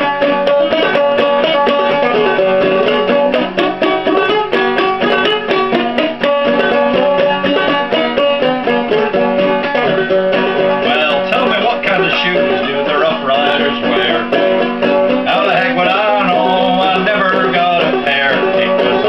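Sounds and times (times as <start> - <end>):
banjo playing: 0.0 - 19.0.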